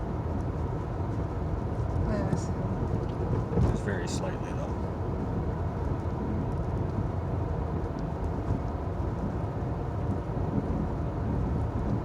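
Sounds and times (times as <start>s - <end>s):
car driving on snowy road: 0.0s - 12.0s.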